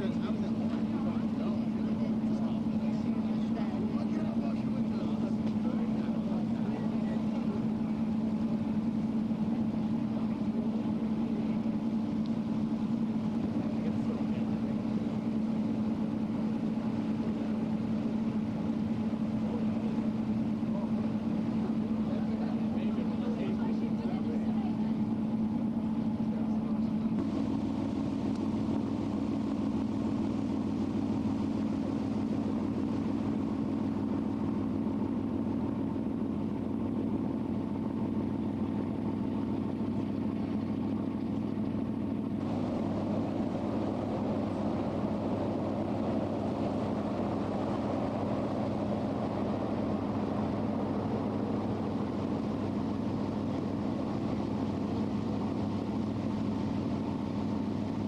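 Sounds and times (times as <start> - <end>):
boat engine droning: 0.0 - 58.0
hiss of wind and water: 0.0 - 58.0.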